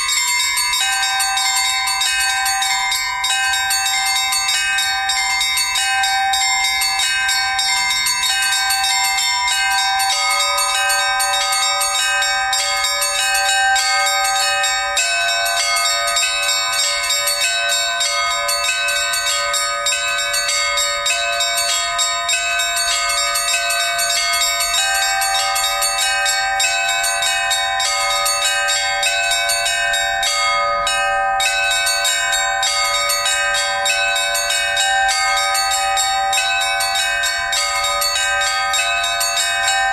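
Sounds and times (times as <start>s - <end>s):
large bells ringing: 0.0s - 39.9s
small bells rapid strikes: 0.0s - 39.9s.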